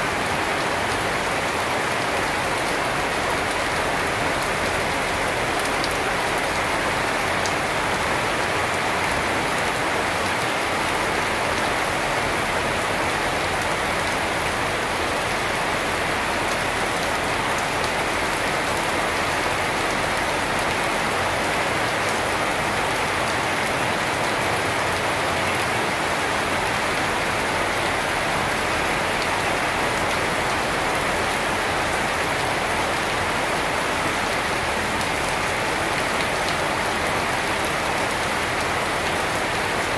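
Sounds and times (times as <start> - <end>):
rain on leaves and concrete: 0.0 - 39.9.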